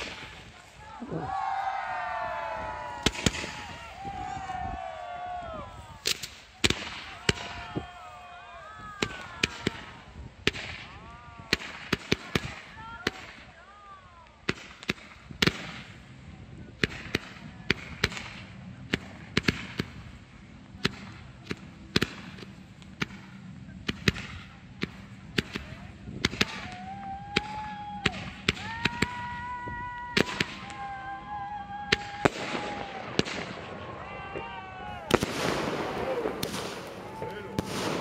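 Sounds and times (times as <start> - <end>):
fireworks bangs and pops: 0.0 - 0.8, 2.4 - 4.6, 6.0 - 7.9, 8.9 - 13.6, 14.2 - 31.0, 31.8 - 38.0.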